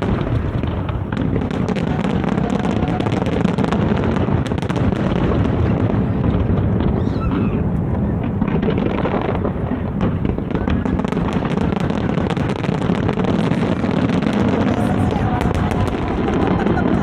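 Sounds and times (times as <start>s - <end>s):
firework booms: 0.0s - 17.0s
firework crackling: 0.0s - 17.0s.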